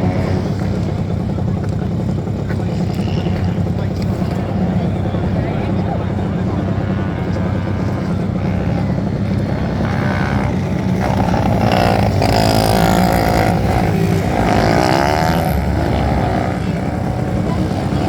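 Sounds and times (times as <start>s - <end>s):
racing motorcycle engines revving: 0.0s - 18.0s.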